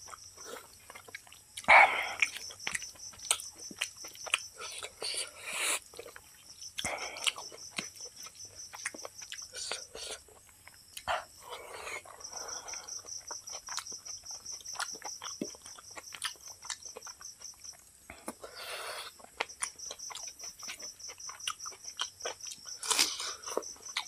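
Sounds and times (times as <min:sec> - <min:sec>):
wet chewing with lip smacks: 0:00.0 - 0:24.0.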